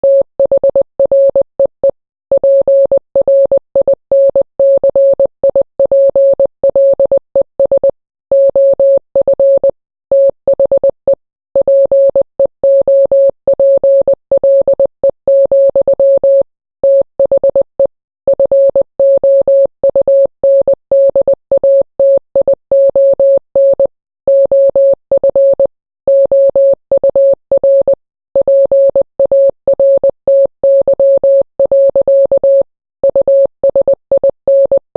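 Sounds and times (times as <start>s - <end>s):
morse code beeps: 0.0s - 34.9s.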